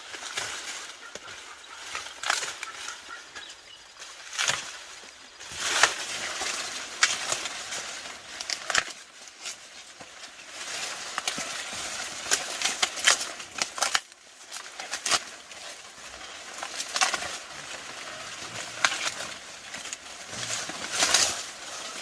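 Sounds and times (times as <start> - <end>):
rustling and crackling: 0.0 - 22.0.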